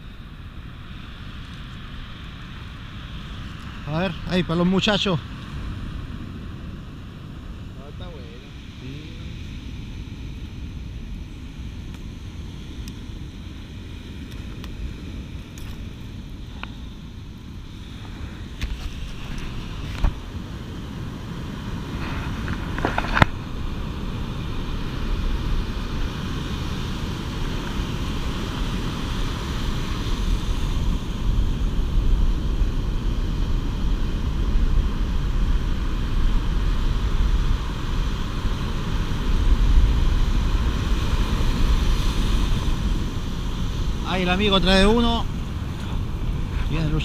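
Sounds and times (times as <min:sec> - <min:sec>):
surf breaking on beach: 0:00.0 - 0:47.0
wind buffeting microphone: 0:00.0 - 0:47.0.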